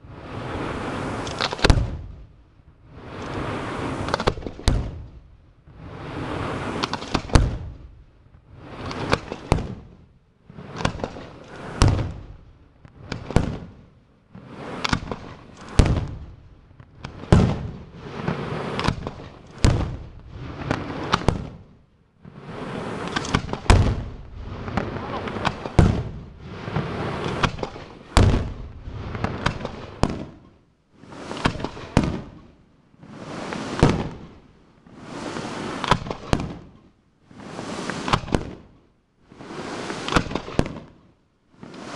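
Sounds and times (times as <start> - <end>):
fireworks crackling: 0.0 - 41.9
firework shells bursting: 0.3 - 38.6, 39.2 - 41.9.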